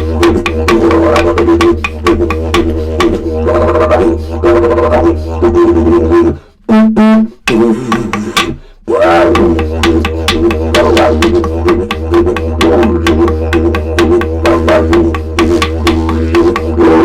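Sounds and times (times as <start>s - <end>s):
didgeridoo rhythmic drone: 0.0s - 17.0s.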